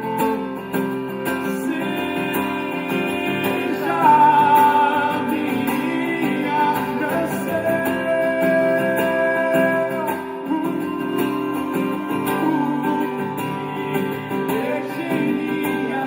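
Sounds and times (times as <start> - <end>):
acoustic pop-folk song: 0.0 - 16.0.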